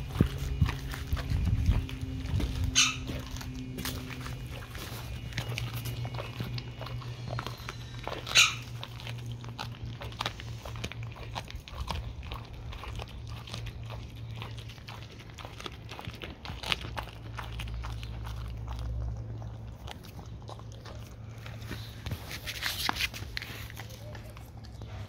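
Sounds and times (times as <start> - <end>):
dog crunching fish bones: 0.0 - 25.0.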